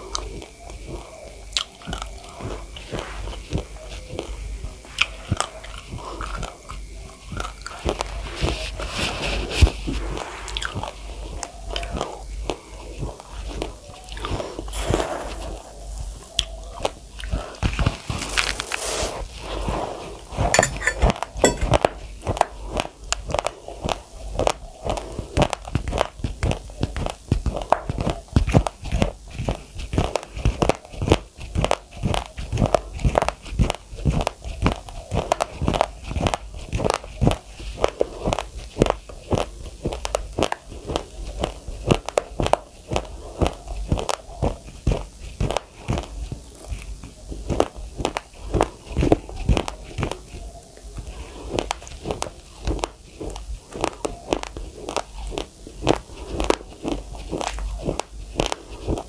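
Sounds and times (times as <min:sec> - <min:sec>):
person chewing raw rice: 0:00.1 - 0:04.3, 0:05.0 - 0:08.6, 0:10.5 - 0:20.1, 0:22.6 - 0:59.0.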